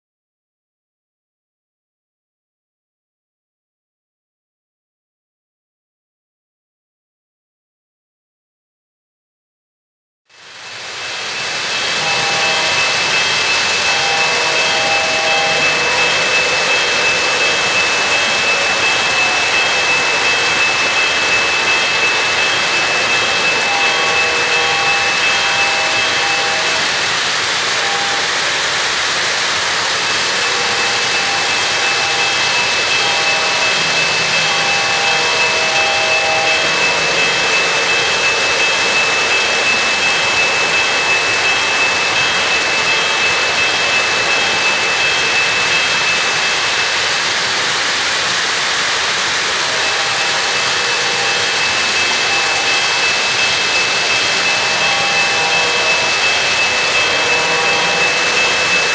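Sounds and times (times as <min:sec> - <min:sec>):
model train wheels rumbling on rail: 0:10.4 - 0:58.9
thin high whine: 0:10.5 - 0:58.9.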